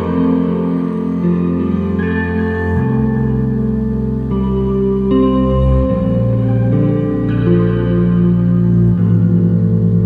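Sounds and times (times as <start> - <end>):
slow ambient instrumental music: 0.0 - 10.0.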